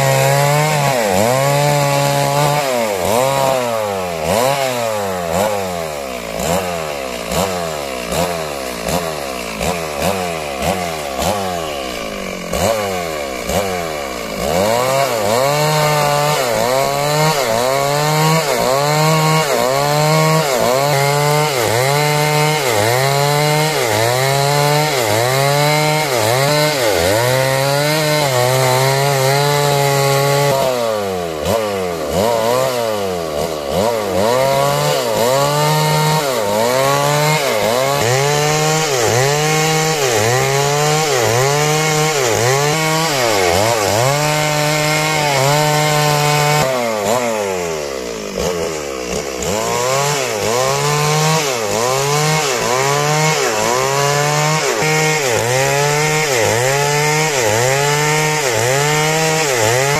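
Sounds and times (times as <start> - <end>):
chainsaw sawing timber: 0.0 - 59.9.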